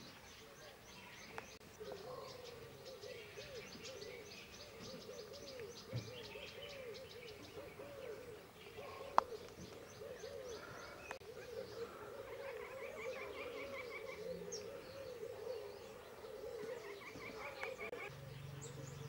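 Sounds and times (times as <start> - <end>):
low animal calls: 1.3 - 19.0.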